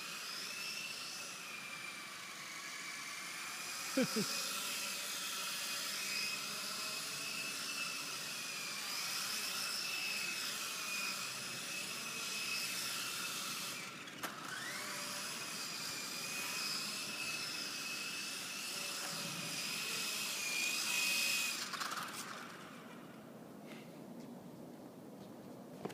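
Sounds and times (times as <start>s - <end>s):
toy electric motor whining: 0.0s - 23.1s.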